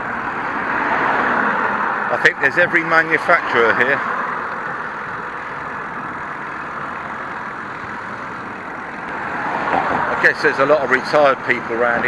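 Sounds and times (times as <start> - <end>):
road traffic rush: 0.0 - 12.0.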